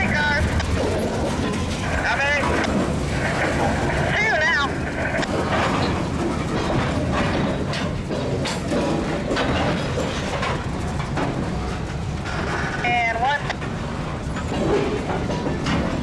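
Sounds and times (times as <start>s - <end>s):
train wheels rumbling on rail: 0.0s - 16.0s
wheels and couplers clanking: 0.0s - 16.0s.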